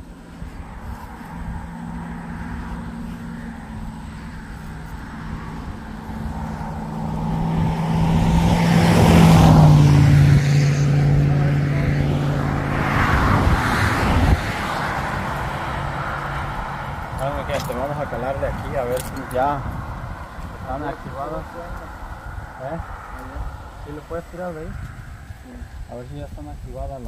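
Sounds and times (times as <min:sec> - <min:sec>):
vehicle passing by: 0:00.0 - 0:27.0.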